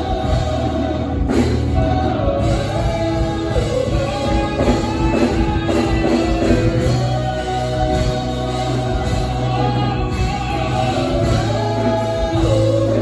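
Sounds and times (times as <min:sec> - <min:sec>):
gospel singing with band: 0:00.0 - 0:13.0.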